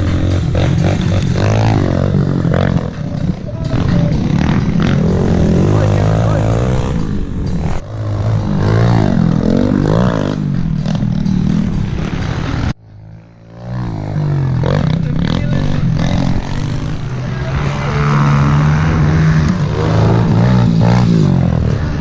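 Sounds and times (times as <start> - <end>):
pit bike engines revving: 0.0 - 22.0.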